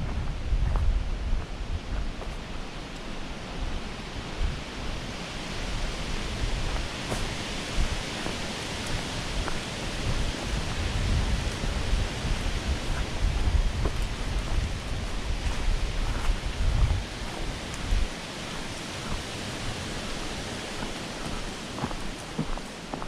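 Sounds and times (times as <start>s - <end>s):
wind buffeting microphone: 0.0s - 23.0s
water rushing: 2.5s - 23.0s.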